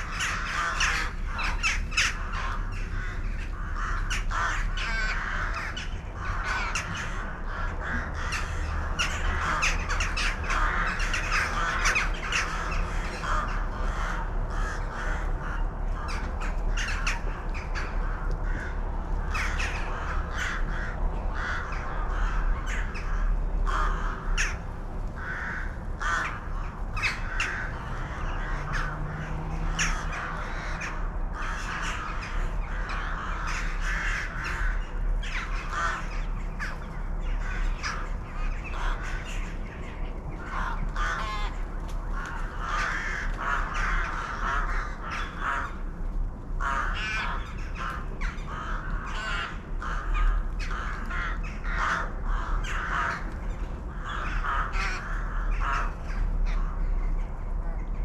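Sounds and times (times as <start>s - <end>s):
flock of birds calling: 0.0s - 58.0s.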